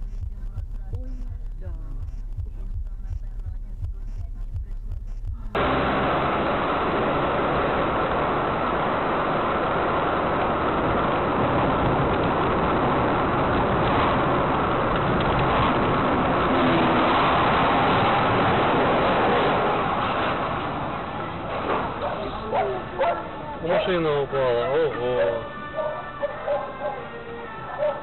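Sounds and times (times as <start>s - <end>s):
moving car road and engine noise: 0.0s - 28.0s.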